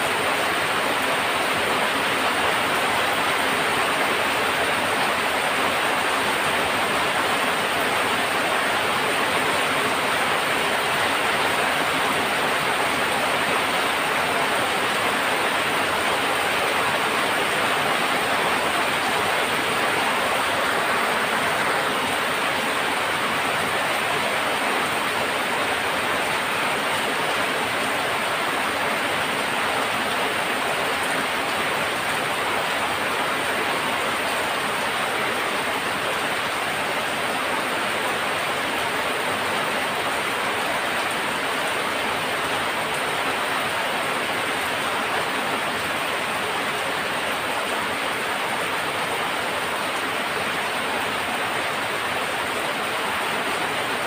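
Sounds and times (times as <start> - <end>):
heavy rain on tin roofs: 0.0 - 54.0.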